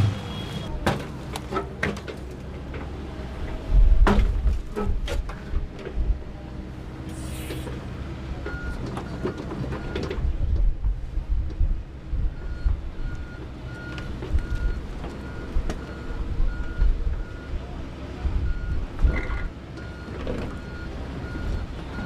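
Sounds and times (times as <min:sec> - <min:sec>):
excavator engine under load: 0:00.0 - 0:22.0.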